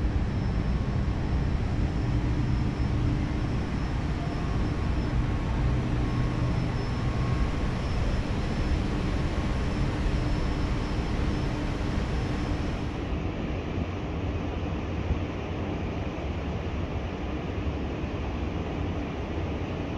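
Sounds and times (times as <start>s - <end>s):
faint continuous hum: 0.0s - 19.9s.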